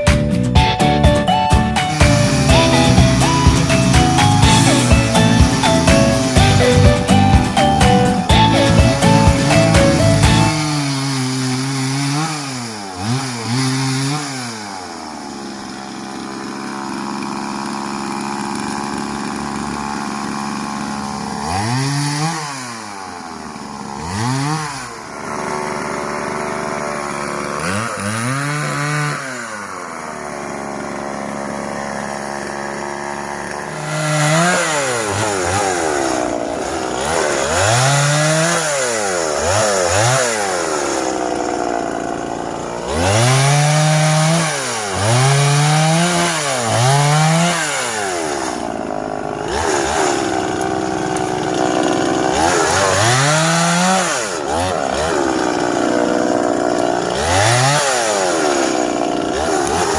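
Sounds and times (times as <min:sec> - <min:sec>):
chainsaw revving and cutting wood: 0:00.0 - 0:59.9.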